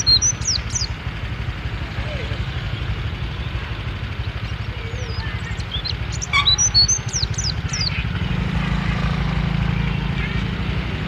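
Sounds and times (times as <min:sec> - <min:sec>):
bird chirping: 0:00.0 - 0:01.1, 0:02.1 - 0:10.8
low traffic rumble: 0:00.0 - 0:11.0.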